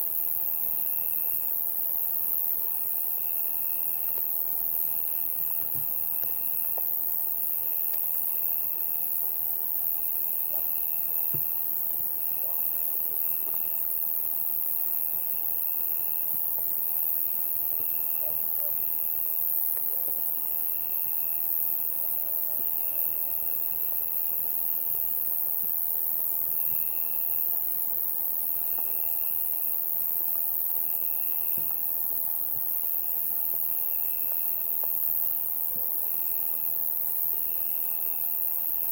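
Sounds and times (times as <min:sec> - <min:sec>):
cricket trill: 0:00.0 - 0:38.9
high-pitched insect hiss: 0:00.0 - 0:38.9.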